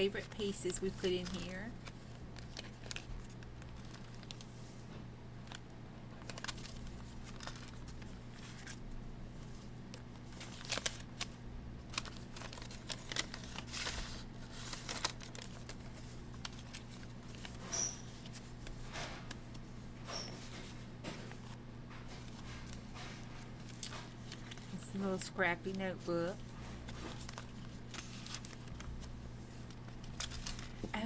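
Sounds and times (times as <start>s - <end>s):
low steady hum: 0.0s - 31.0s
paper rustling and crinkling: 0.0s - 31.0s.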